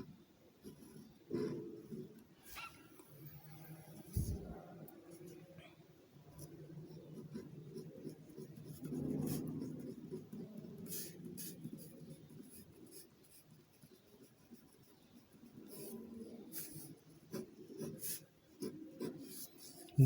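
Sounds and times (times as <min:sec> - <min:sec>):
pen scratching on paper: 0:00.6 - 0:02.8, 0:04.0 - 0:04.5, 0:06.4 - 0:19.9.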